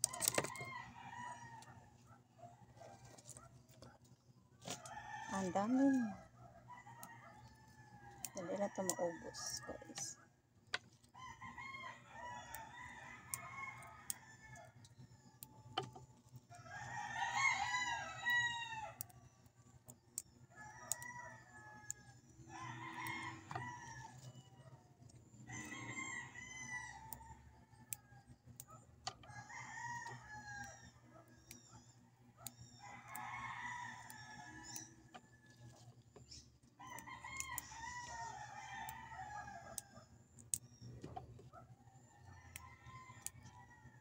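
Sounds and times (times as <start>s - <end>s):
roosters crowing: 0.0s - 2.0s, 4.6s - 10.2s, 11.1s - 19.2s, 20.3s - 36.0s, 36.6s - 40.7s, 41.7s - 44.0s.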